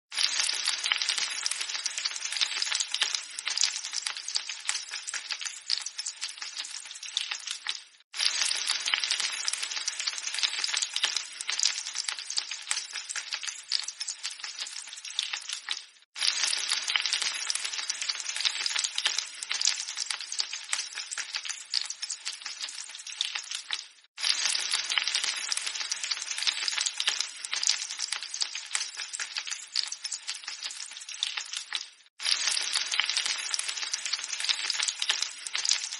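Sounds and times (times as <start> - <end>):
eggs sizzling in a pan: 0.1 - 35.9.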